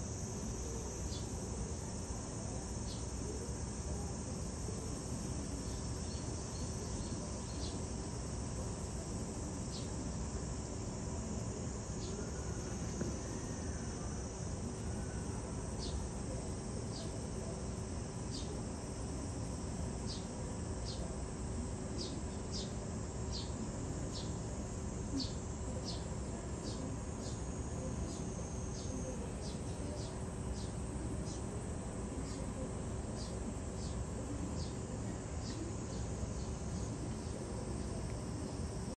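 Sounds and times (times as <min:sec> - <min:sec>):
faint low hum: 0:00.0 - 0:38.9
insects buzzing and chirping: 0:00.0 - 0:38.9.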